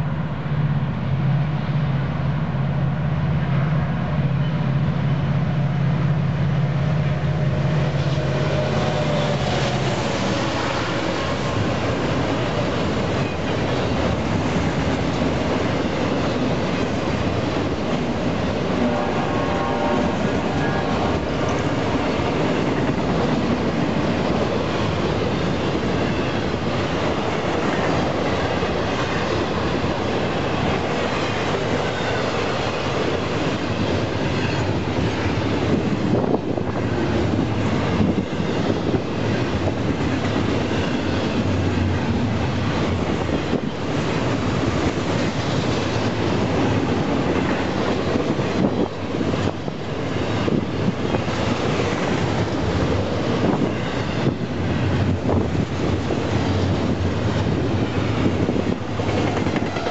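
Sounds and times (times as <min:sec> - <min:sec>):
freight train rumble: 0:00.0 - 0:59.9
sharp clicks from train wheels: 0:07.4 - 0:18.9, 0:20.1 - 0:59.9.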